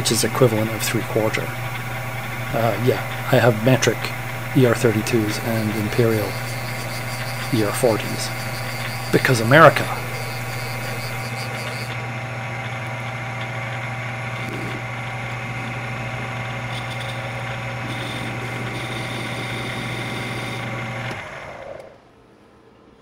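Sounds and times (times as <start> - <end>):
machine spindle motor hum and whine: 0.0 - 22.0.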